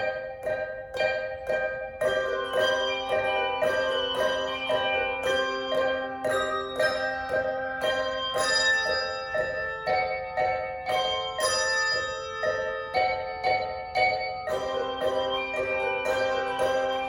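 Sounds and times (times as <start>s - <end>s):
handbell choir playing chords: 0.0s - 17.0s.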